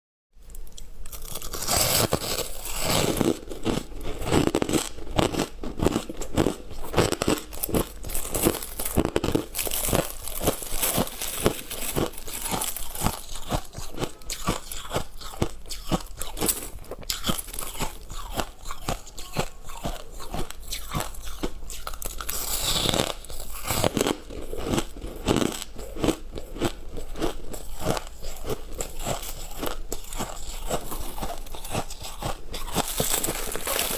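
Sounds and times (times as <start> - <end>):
crunching and chewing ice: 0.8 - 33.9.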